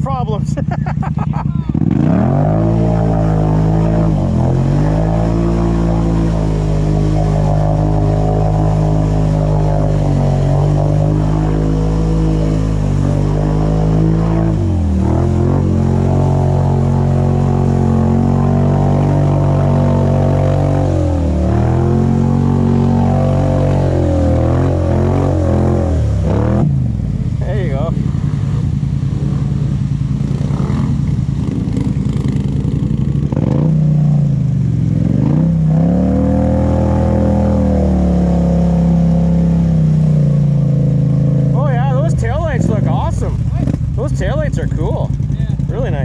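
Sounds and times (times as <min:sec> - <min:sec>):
atv engine revving: 0:00.0 - 0:46.0
water splashing and churning: 0:01.7 - 0:46.0.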